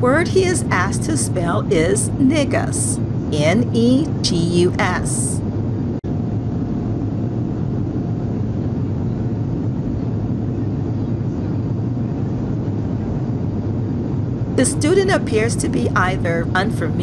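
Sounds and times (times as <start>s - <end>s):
jet airliner rumble: 0.0s - 17.0s.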